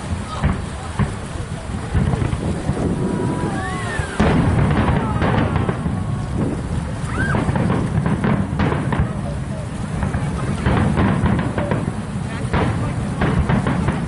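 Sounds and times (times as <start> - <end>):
fireworks bursts and crackles: 0.0 - 14.0
people's voices: 0.0 - 14.0
wind on microphone: 0.0 - 14.0.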